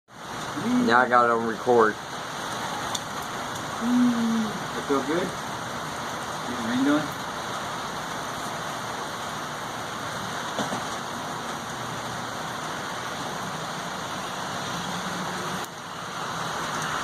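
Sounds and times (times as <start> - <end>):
steady rain falling: 0.1 - 17.0.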